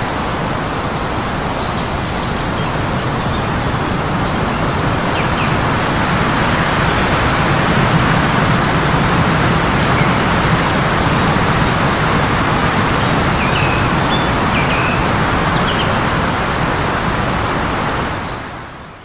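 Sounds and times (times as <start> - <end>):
heavy blizzard wind: 0.0 - 19.0.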